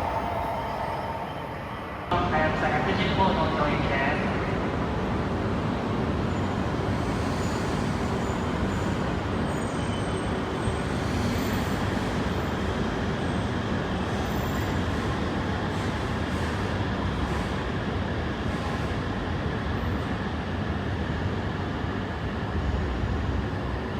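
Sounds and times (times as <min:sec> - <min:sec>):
train rumble and hum: 0:00.0 - 0:23.9.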